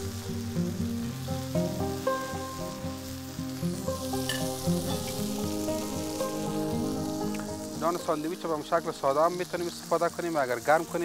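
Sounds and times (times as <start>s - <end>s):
background music with held notes: 0.0s - 11.0s
sausages sizzling on a griddle: 0.0s - 11.0s.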